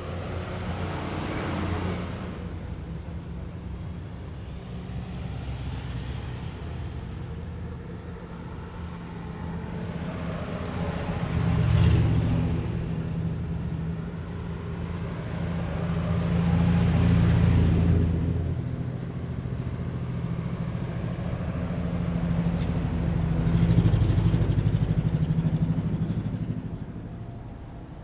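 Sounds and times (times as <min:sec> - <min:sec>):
heavy vehicle engines rumbling: 0:00.0 - 0:28.0.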